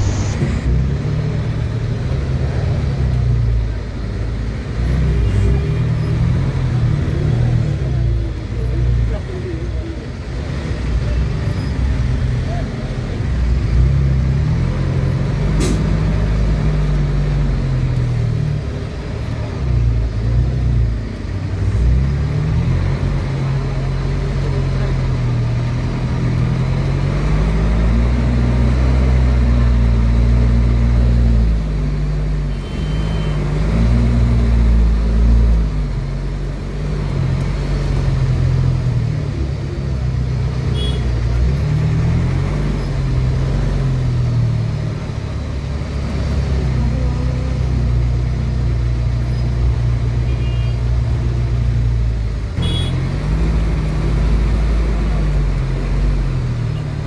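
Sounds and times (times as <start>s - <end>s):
vehicle engine drone: 0.0s - 57.0s.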